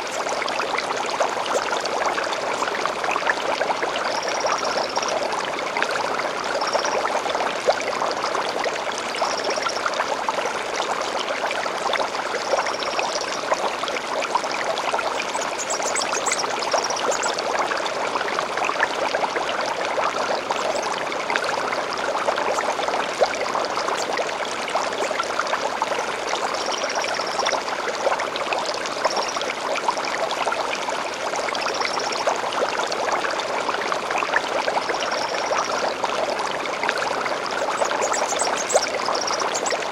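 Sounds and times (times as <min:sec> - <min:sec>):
small stream babbling: 0:00.0 - 0:39.9.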